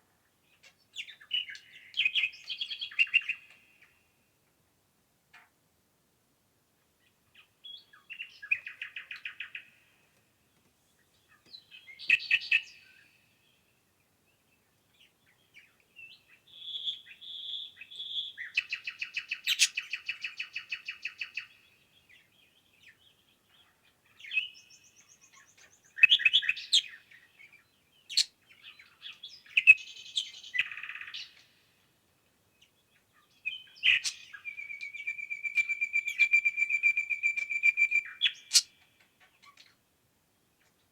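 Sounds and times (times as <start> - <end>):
songbirds chirping and trilling: 0.1 - 4.7, 6.7 - 40.9.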